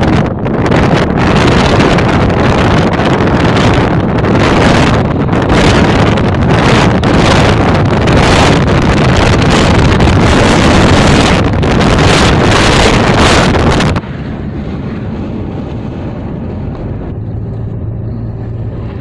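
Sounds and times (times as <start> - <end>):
low hum of moving car: 0.0 - 19.0
road noise: 0.0 - 19.0
wind buffeting microphone: 0.0 - 19.0.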